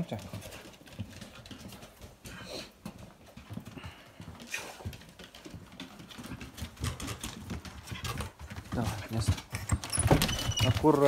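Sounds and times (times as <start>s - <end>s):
footsteps on wooden floor: 0.0s - 11.0s.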